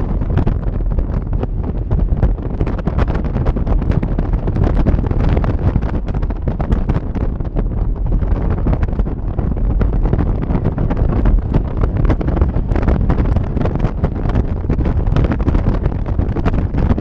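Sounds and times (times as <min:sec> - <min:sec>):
low rumble of car and road: 0:00.0 - 0:17.0
wind buffeting microphone: 0:00.0 - 0:17.0.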